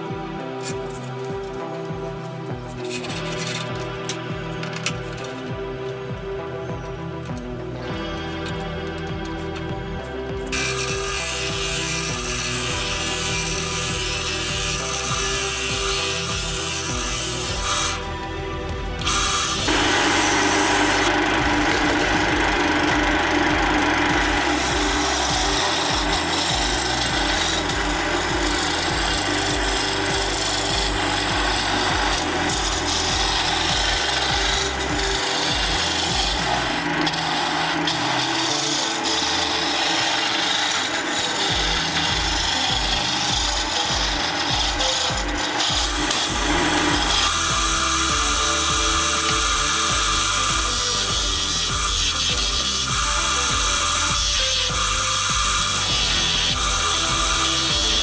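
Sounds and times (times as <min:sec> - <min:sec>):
lathe tool rasping on wood: 0:00.0 - 0:58.0.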